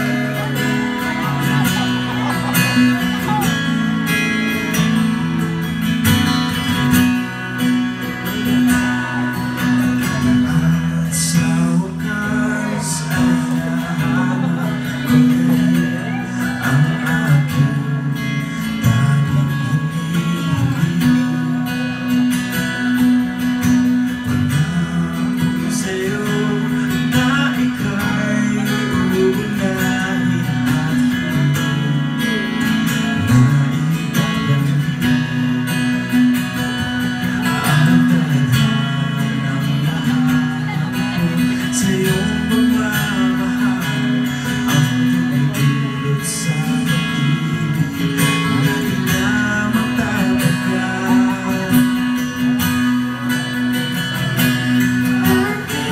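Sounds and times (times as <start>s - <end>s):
ballad with strummed acoustic guitar: 0.0s - 55.9s.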